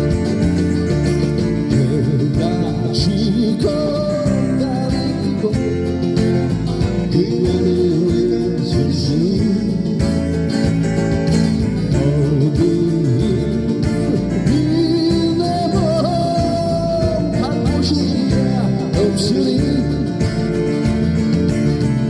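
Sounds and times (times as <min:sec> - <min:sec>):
live band with guitar: 0:00.0 - 0:22.0.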